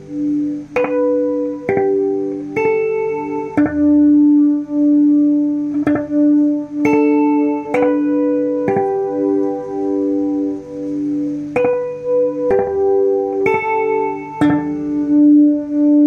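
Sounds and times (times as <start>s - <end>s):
electric guitar notes with echo: 0.0s - 16.0s.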